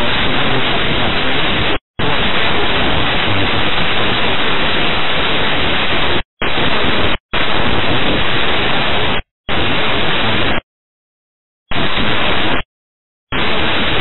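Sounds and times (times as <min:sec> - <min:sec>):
radio static hiss: 0:00.0 - 0:10.7, 0:11.7 - 0:12.7, 0:13.3 - 0:14.0.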